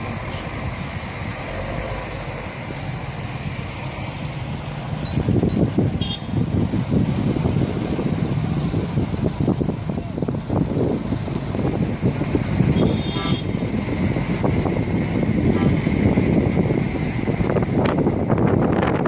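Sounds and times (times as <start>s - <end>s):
low rumble of traffic or engines: 0.0s - 19.0s.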